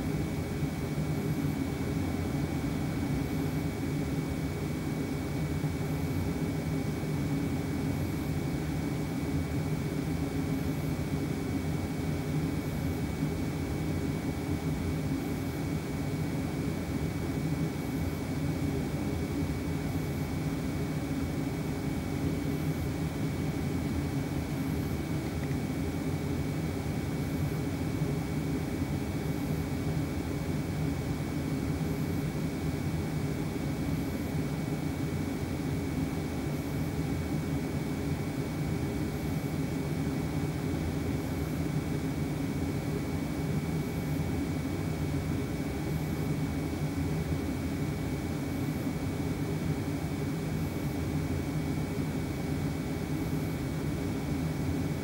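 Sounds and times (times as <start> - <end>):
heater low hum: 0.0 - 55.0.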